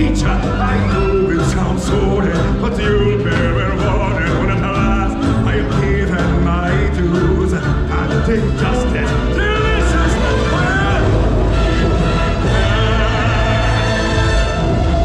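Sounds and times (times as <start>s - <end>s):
loud stage music with beat: 0.0s - 15.0s.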